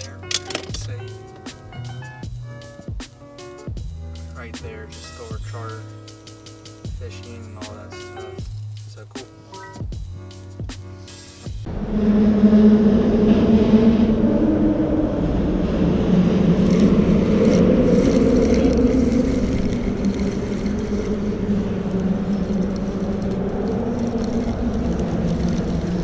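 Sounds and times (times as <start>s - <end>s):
engine droning hum: 0.0s - 10.1s, 11.4s - 26.0s.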